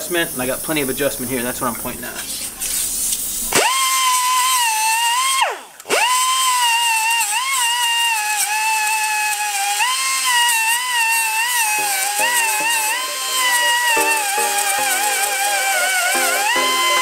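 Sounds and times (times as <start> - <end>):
pneumatic cut-off tool grinding steel: 2.2 - 17.0.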